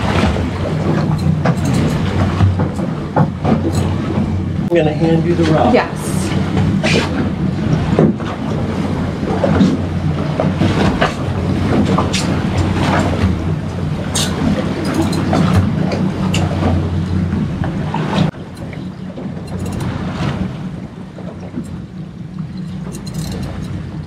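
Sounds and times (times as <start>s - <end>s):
outboard engine idling: 0.0s - 24.0s.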